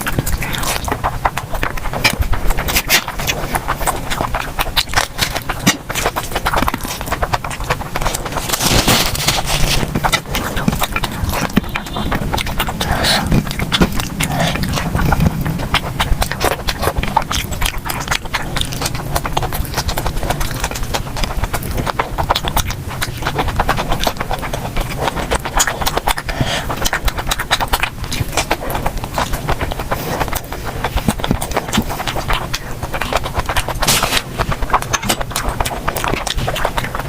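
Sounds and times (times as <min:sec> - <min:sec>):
clicking mouth noises: 0:00.0 - 0:37.0
person chewing: 0:00.0 - 0:37.0.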